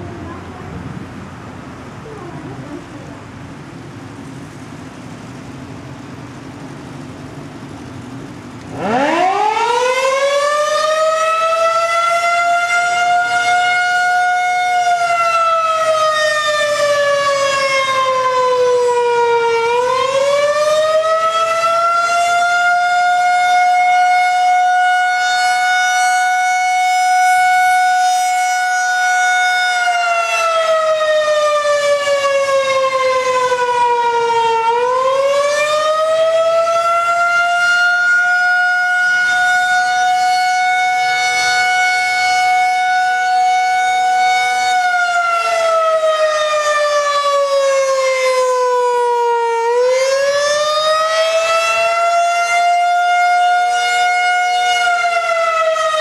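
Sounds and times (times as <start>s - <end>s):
rotating siren wailing: 8.5s - 56.0s.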